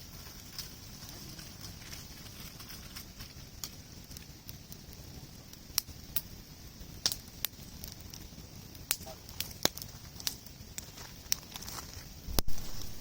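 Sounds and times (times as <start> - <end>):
campfire hissing: 0.0 - 13.0
logs popping: 0.0 - 13.0.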